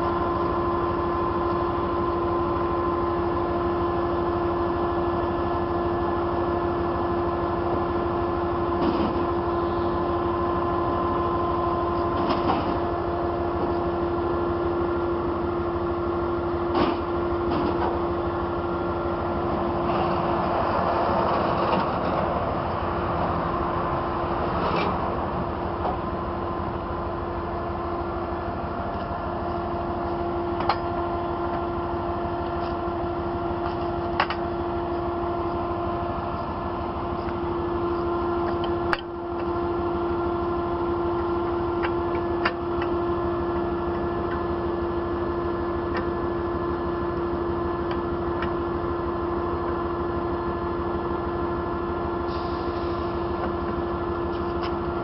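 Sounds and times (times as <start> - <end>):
truck engine humming: 0.0 - 55.0.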